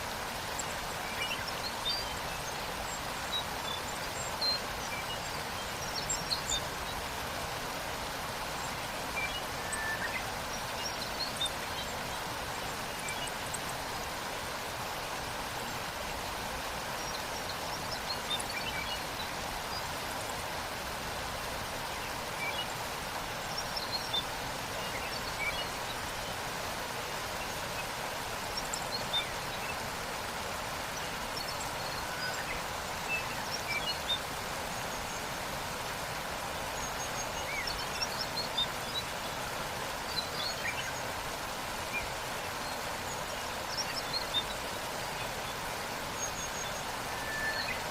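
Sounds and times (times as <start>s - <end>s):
waterfall: 0.0s - 47.9s.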